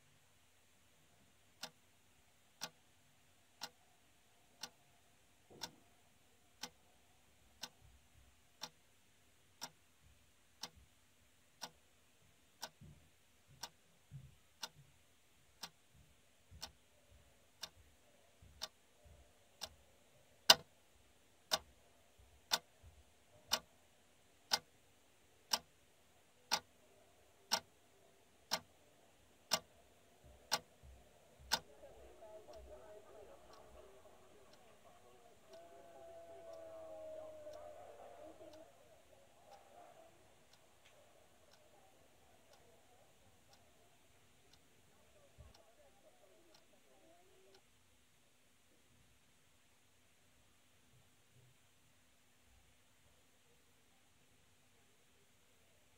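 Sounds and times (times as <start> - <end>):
wall clock ticking: 1.4 - 48.1.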